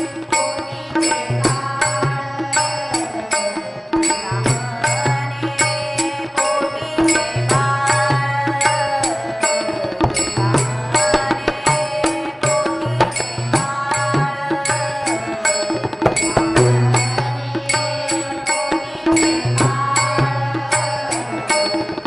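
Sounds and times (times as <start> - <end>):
hand cymbals struck: 0.0 - 22.0
harmonium: 0.0 - 22.0
women singing devotional song: 0.0 - 22.0.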